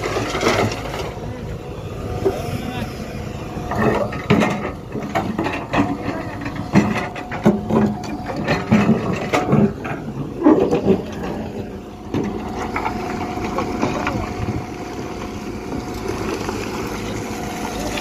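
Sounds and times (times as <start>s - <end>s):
diesel engine hum: 0.0s - 18.0s.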